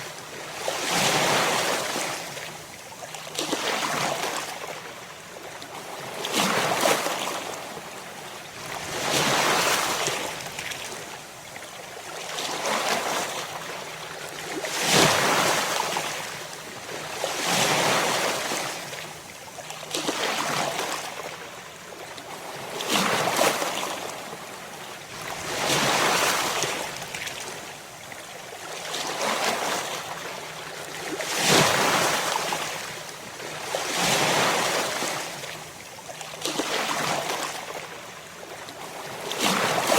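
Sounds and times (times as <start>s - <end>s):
ocean waves breaking on shore: 0.0s - 2.7s, 3.3s - 11.3s, 12.0s - 21.7s, 22.3s - 39.9s.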